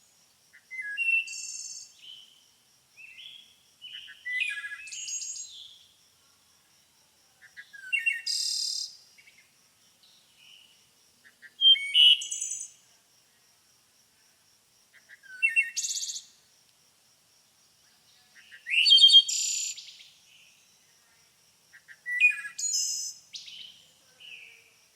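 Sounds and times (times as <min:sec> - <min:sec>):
songbird chirps and trills: 0:00.0 - 0:02.4, 0:03.0 - 0:06.0, 0:07.4 - 0:13.4, 0:14.9 - 0:16.5, 0:17.8 - 0:24.9.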